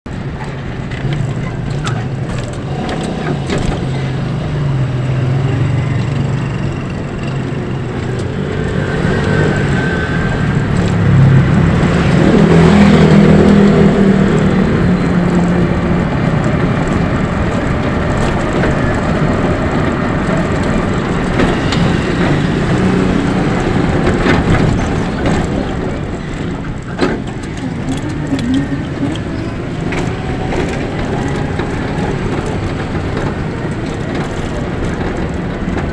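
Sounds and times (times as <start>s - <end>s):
vehicle road rumble: 0.1s - 35.9s.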